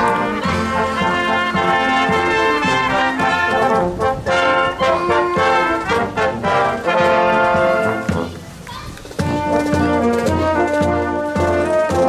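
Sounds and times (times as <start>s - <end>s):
brass band playing: 0.0s - 8.6s, 9.2s - 12.0s.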